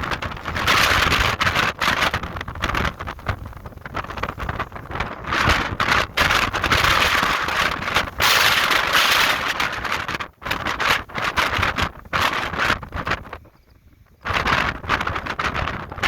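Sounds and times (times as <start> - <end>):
strong wind gusting: 0.0 - 16.0
wind buffeting microphone: 0.0 - 16.0.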